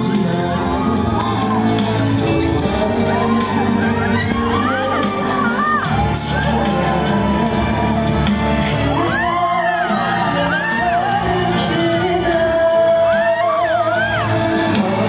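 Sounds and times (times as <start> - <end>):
fans shouting and whooping: 0.0 - 15.0
man singing over backing track: 0.0 - 15.0.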